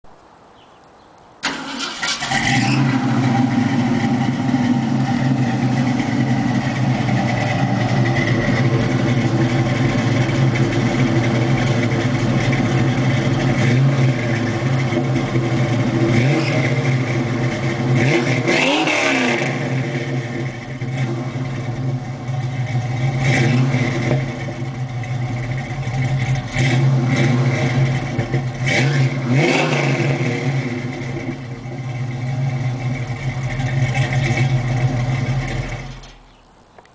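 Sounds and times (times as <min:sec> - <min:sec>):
car engine idling and revving: 0:01.4 - 0:36.4.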